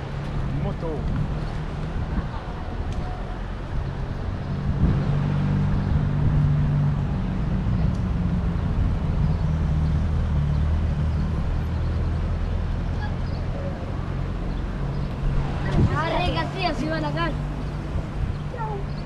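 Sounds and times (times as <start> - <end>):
street noise: 0.0 - 19.0
vehicle engine humming: 0.0 - 19.0.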